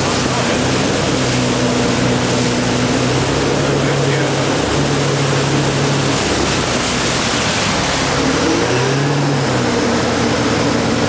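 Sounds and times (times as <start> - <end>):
boat engine running: 0.0 - 11.0
churning water rushing: 0.0 - 11.0.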